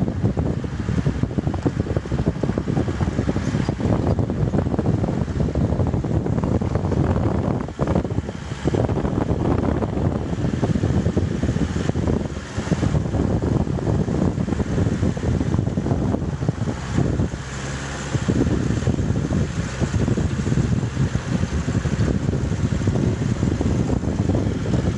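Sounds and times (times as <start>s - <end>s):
engine steady tone: 0.0s - 24.9s
vehicle rumble: 0.0s - 24.9s
wind buffeting microphone: 0.0s - 24.9s.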